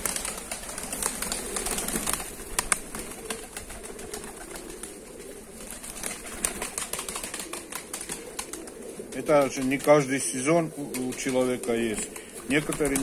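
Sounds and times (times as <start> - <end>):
pigeons cooing: 0.0 - 13.0
pigeons pecking seeds: 0.0 - 13.0
wing flap: 0.0 - 13.0.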